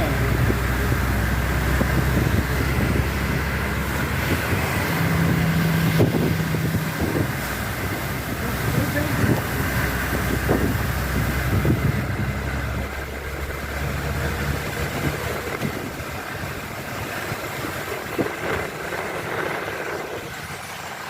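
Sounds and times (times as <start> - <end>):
street noise: 0.0 - 21.0
vehicle engine rumbling: 0.0 - 21.0.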